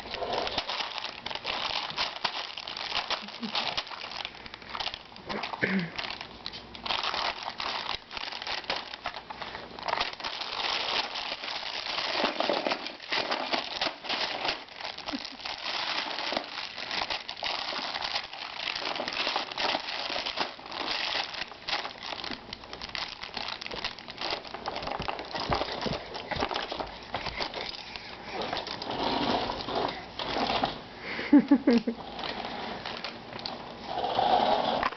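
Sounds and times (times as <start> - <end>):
plastic package crinkling: 0.0 - 30.8, 32.1 - 33.6.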